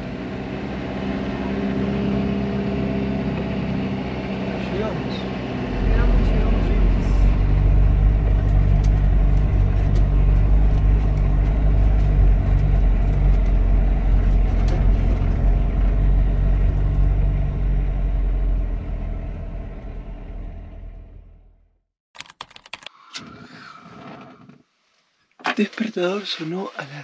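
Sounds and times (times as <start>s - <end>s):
van engine and road rumble: 0.0s - 21.9s.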